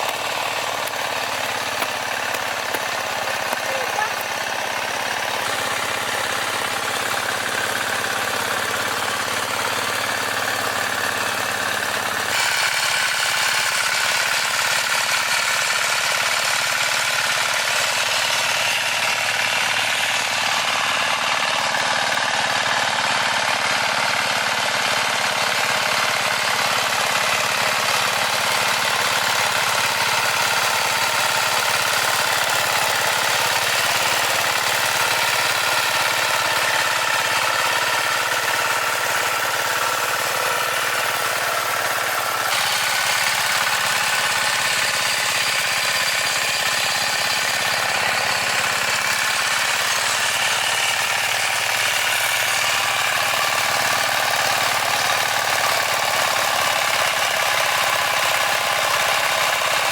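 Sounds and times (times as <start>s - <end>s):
farm machine engine: 0.0s - 59.9s.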